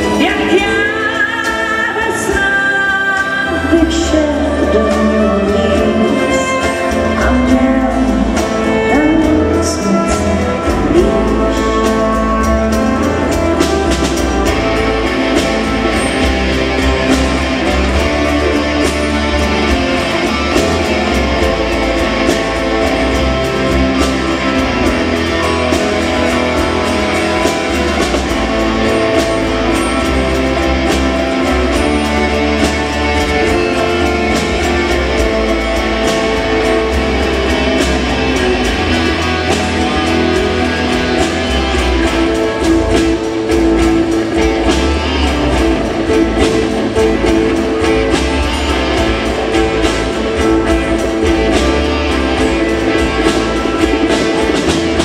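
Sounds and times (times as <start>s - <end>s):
amplified guitars: 0.0s - 55.0s
bass: 0.0s - 55.0s
drums: 0.0s - 55.0s.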